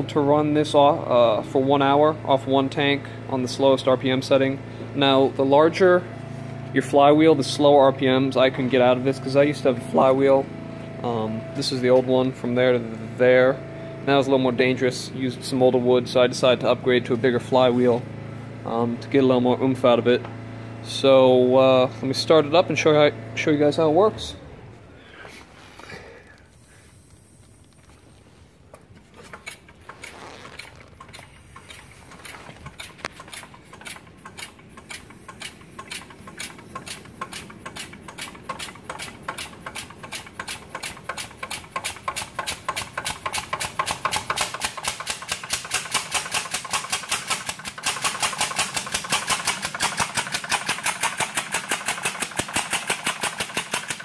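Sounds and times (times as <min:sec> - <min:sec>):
air-powered engine clacking and puffing: 0:00.7 - 0:54.0.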